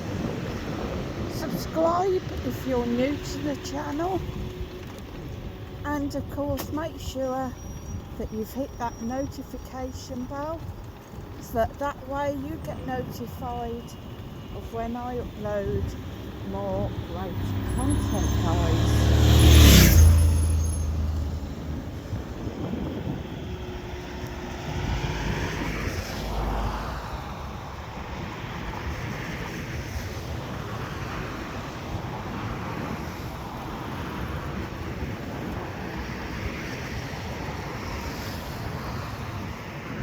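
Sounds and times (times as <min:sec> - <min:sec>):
distant road traffic: 0:00.0 - 0:40.0
vehicles passing: 0:00.0 - 0:40.0.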